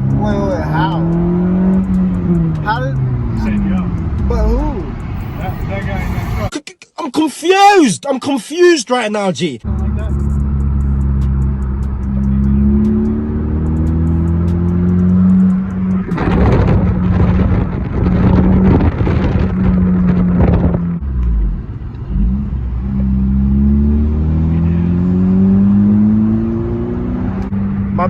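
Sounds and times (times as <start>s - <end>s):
car engine accelerating: 0.0s - 6.5s, 9.6s - 28.0s.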